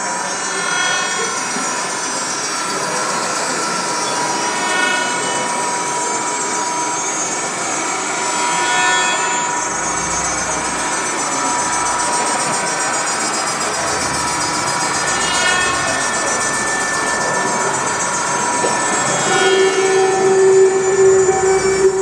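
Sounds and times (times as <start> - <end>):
steady high tone: 0.0 - 22.0
wall of distorted noise: 0.0 - 22.0.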